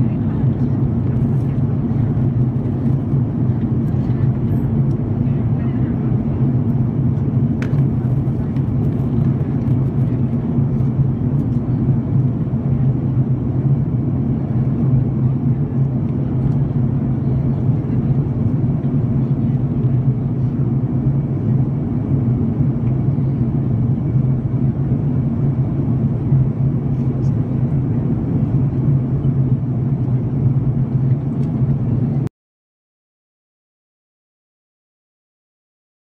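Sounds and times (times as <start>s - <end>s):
airliner cabin drone: 0.0s - 32.3s.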